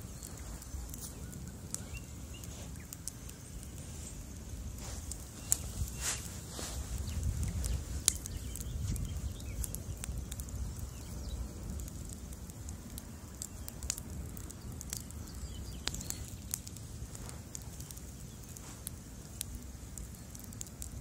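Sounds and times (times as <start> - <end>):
bonfire flames rumbling: 0.0 - 21.0
fire crackling and popping: 0.0 - 21.0.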